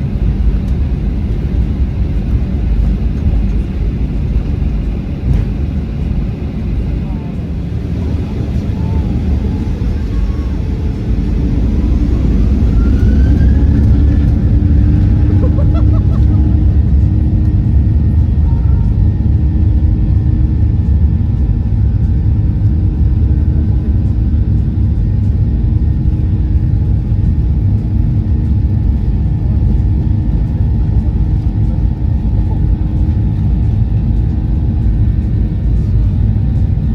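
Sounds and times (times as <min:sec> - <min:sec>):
jet engines rumbling in cabin: 0:00.0 - 0:36.9.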